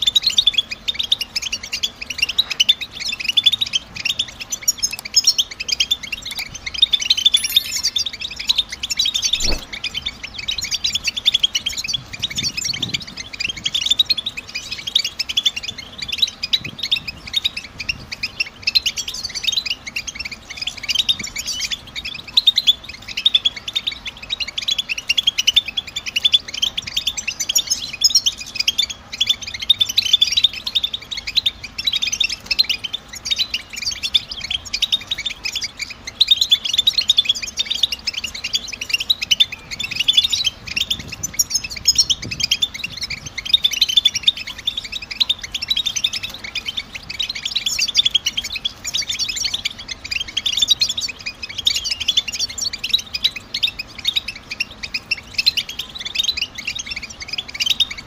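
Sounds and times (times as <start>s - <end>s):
finches twittering: 0.0s - 58.0s.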